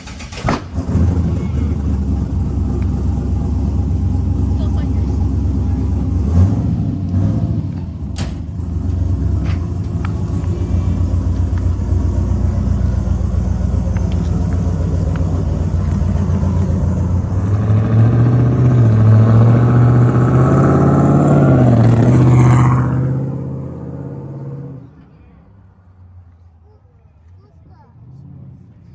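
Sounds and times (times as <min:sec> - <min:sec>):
sports car engine revving: 0:00.1 - 0:25.0.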